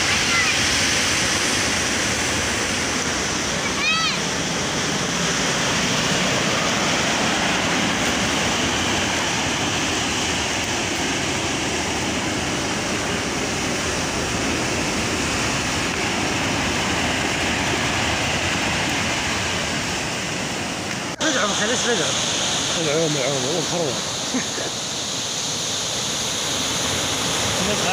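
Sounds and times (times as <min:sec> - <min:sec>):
waves breaking on rocky shore: 0:00.0 - 0:27.9.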